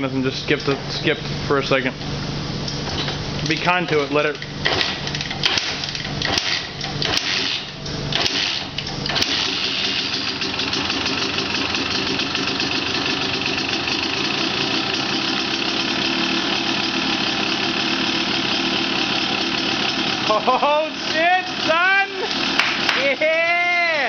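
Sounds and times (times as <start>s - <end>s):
motorcycle engine starting and idling: 2.9s - 23.6s.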